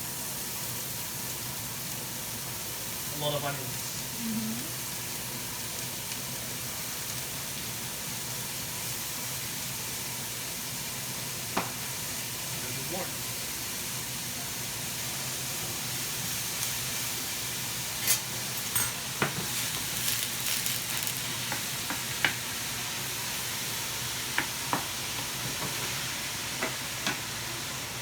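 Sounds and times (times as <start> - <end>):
onions sizzling in a pan: 0.0 - 28.0.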